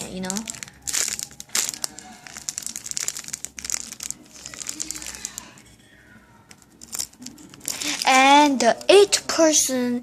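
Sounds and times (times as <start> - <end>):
foam toy crinkling: 0.0 - 5.7, 6.5 - 9.2.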